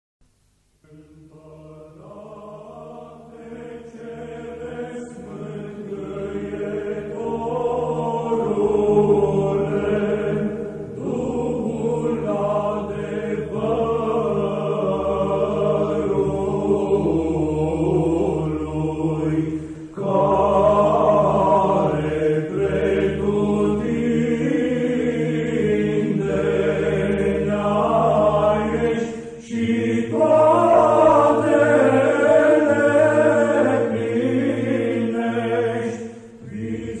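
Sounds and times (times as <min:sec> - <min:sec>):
choir chanting over a drone: 0:00.8 - 0:37.0.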